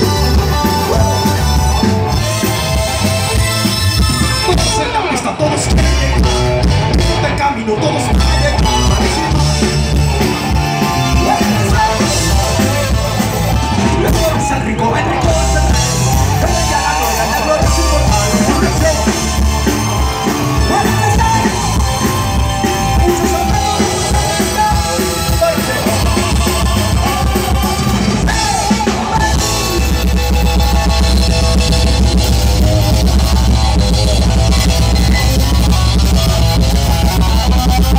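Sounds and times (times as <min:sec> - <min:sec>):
drum kit: 0:00.0 - 0:07.4, 0:08.1 - 0:37.9
electric guitars: 0:00.0 - 0:37.9
keyboard: 0:00.0 - 0:37.9
person singing: 0:00.0 - 0:37.9.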